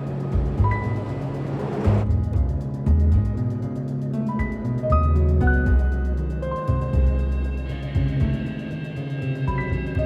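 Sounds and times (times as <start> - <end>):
music with bass and ticking beat: 0.0 - 10.0.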